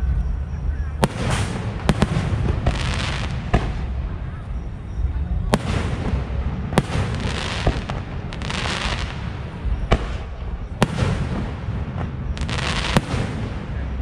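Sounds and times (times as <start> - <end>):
crackling fizz of fireworks: 0.0 - 14.0
low rumble: 0.0 - 14.0.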